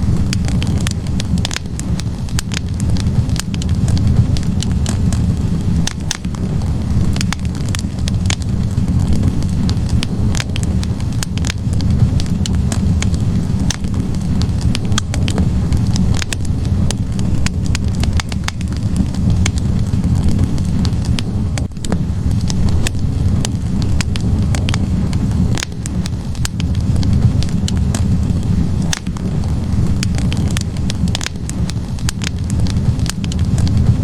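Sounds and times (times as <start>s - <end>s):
burning logs crackling and popping: 0.0s - 34.0s
rumble of fire flames: 0.0s - 34.0s.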